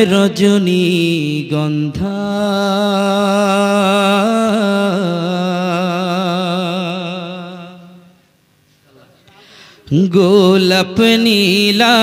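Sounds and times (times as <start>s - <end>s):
man singing: 0.0s - 8.1s, 9.8s - 12.0s.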